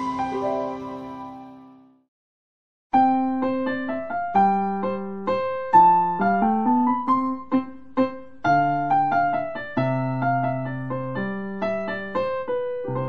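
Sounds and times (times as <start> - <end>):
piano melody over chords: 0.0 - 2.0, 3.0 - 13.0.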